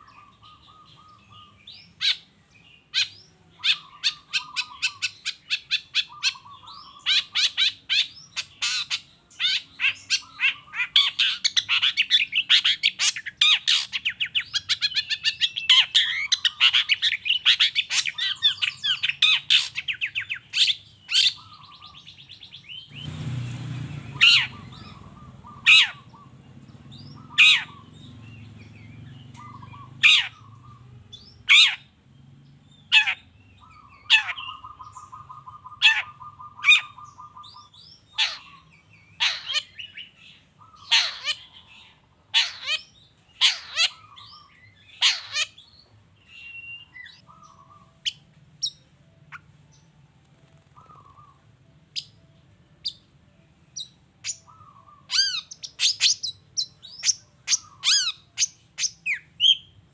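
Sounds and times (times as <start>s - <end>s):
bird singing sharp downward notes: 0.0s - 59.9s.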